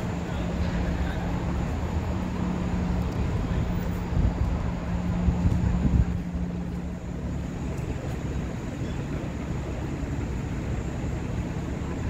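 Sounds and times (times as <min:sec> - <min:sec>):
engine hum: 0:00.0 - 0:12.0
low rumble of vehicles: 0:00.0 - 0:12.0.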